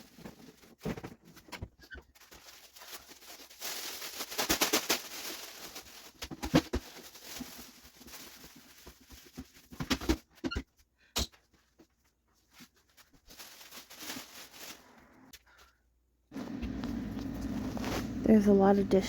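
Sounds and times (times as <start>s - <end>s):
plastic garbage bag rustling: 0.0s - 10.0s, 12.4s - 15.3s, 16.3s - 19.0s.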